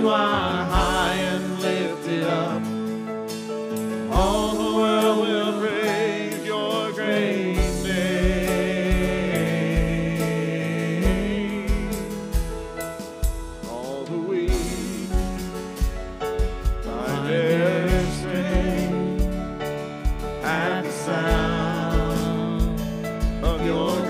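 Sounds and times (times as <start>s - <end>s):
drum hits: 0.0s - 5.8s, 7.6s - 24.0s
band accompaniment: 0.0s - 24.0s
worship singing: 0.0s - 24.0s.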